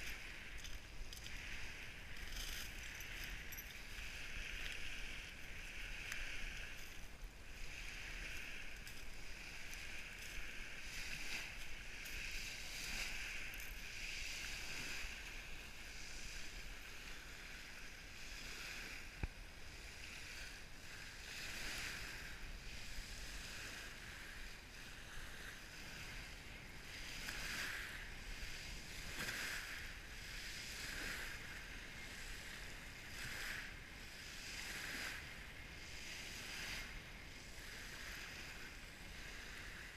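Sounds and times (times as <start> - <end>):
waves washing onto pebble beach: 0.0 - 39.9.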